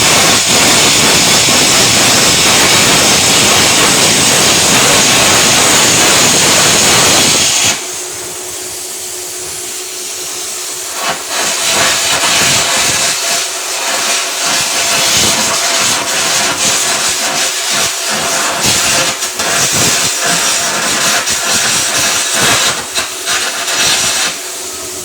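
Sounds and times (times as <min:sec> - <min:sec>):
welding arc hissing: 0:00.0 - 0:25.0.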